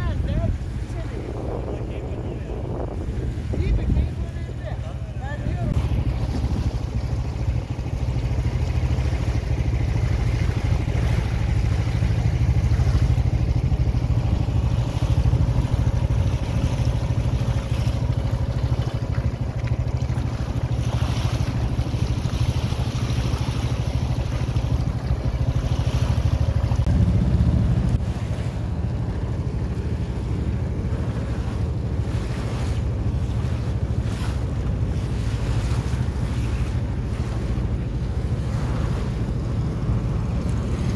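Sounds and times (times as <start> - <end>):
boat engine running: 0.0 - 40.9
wind buffeting microphone: 0.0 - 40.9.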